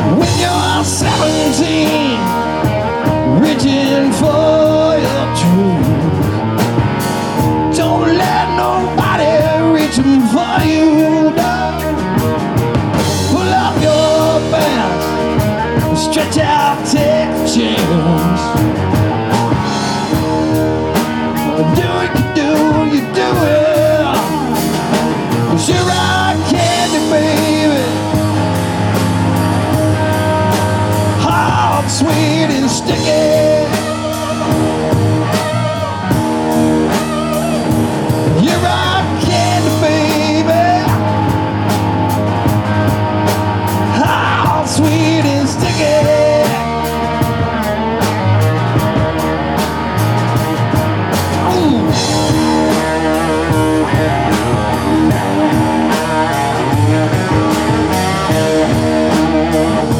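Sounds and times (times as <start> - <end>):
person singing: 0.0 - 49.1, 49.9 - 59.9
drums: 0.0 - 59.9
electric guitar: 0.0 - 59.9.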